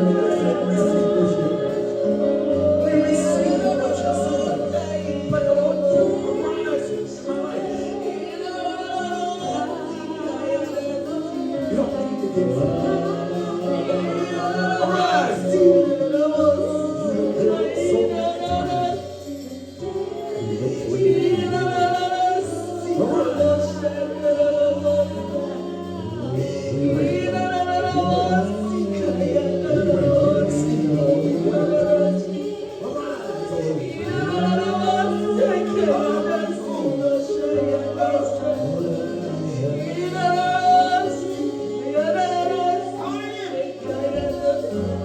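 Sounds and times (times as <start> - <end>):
instrumental backing: 0.0 - 45.0
voices singing held notes: 0.0 - 45.0.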